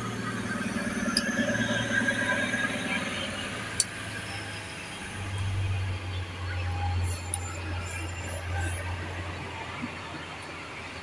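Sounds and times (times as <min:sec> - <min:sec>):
passing train hum: 0:00.0 - 0:11.0.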